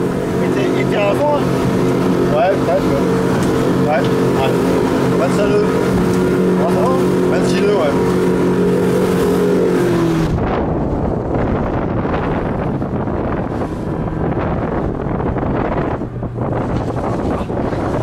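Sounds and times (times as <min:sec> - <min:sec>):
motorboat engine running: 0:00.0 - 0:18.0
water against hull: 0:00.0 - 0:18.0
wind on microphone: 0:00.0 - 0:18.0.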